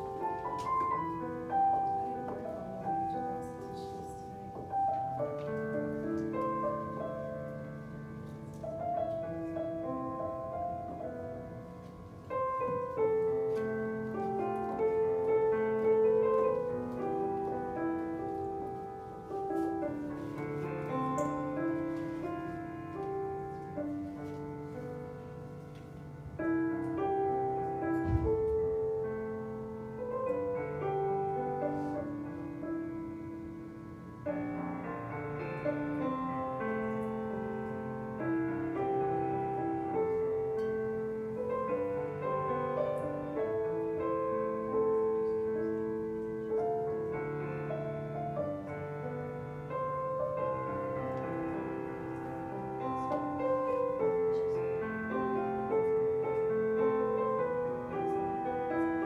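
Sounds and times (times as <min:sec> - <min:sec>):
slow piano music over speakers: 0:00.0 - 0:59.0.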